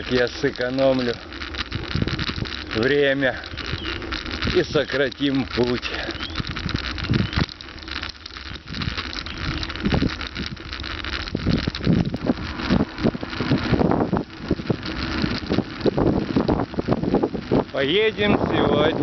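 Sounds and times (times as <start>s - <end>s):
bicycle rattling over rough ground: 0.0s - 19.0s
wind buffeting microphone: 0.0s - 19.0s.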